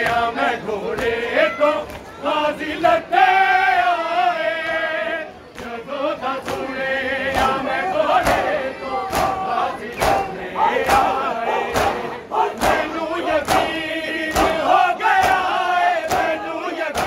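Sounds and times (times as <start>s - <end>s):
crowd of mourners: 0.0s - 17.0s
men chanting in group: 0.0s - 17.0s.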